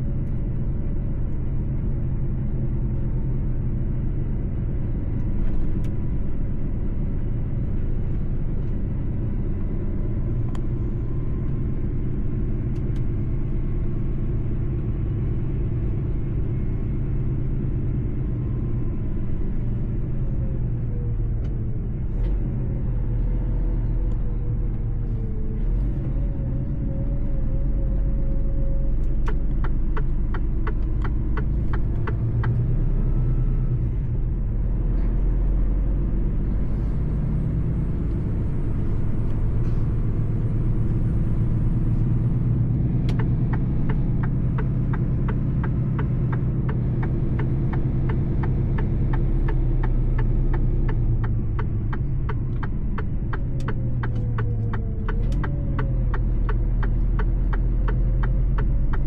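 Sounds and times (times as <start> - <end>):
truck engine low rumble: 0.0 - 59.0.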